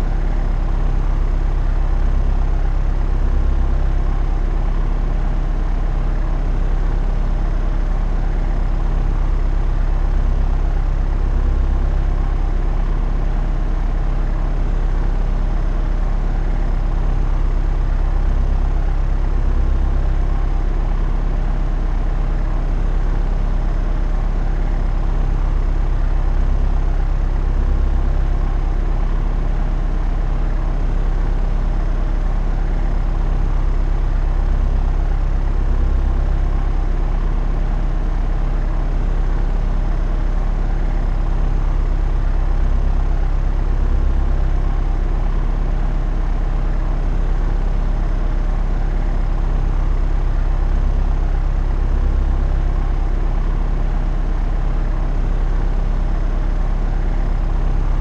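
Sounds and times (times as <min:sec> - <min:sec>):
propeller aircraft drone: 0:00.0 - 0:58.0.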